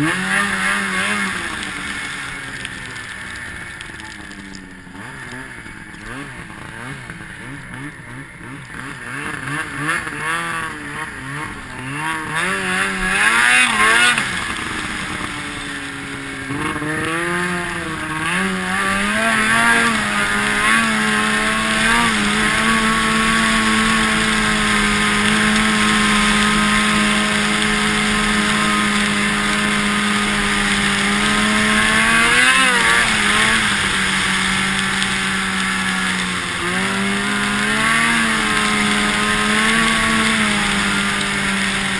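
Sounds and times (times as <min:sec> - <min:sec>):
snowmobile engine revving: 0:00.0 - 0:41.9.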